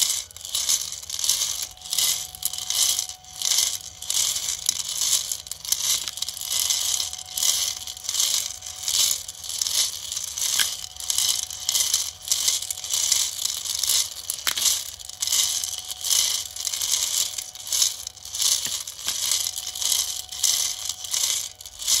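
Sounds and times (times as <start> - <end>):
faint motor whine: 0.0 - 22.0
sharp clicks of nuts: 0.0 - 22.0.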